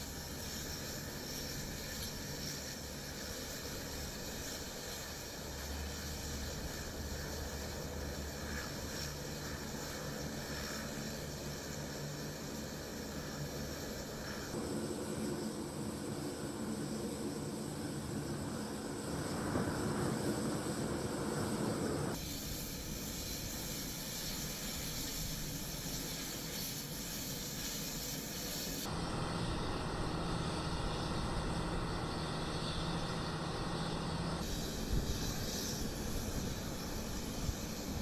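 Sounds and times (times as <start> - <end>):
engine noise with hiss: 0.0 - 38.0.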